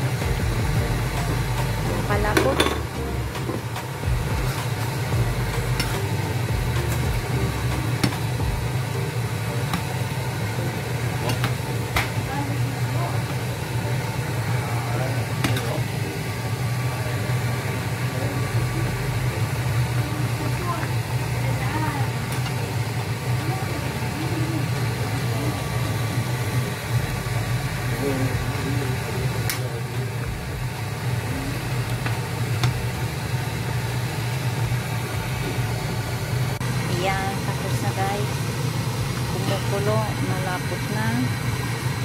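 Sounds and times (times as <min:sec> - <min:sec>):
fan motor hum: 0:00.0 - 0:42.0.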